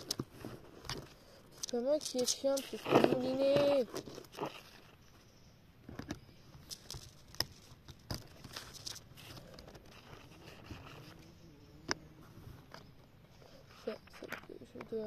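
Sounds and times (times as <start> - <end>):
faint rustling: 0.0 - 15.0.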